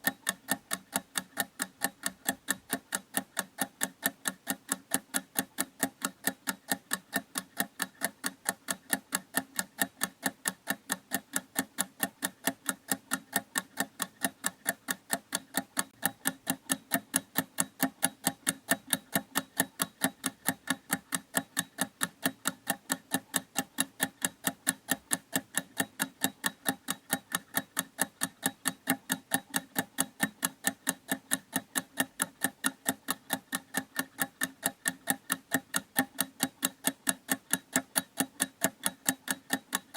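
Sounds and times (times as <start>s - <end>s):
mechanical clock ticking: 0.0s - 39.9s.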